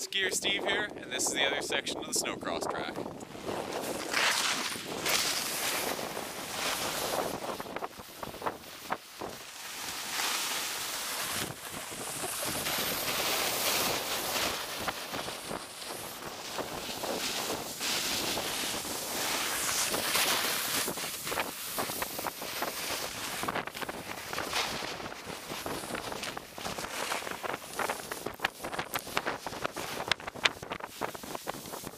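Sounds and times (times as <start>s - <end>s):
wind rushing over microphone: 0.0s - 9.4s, 11.2s - 31.9s
skis scraping over packed snow: 0.0s - 31.9s.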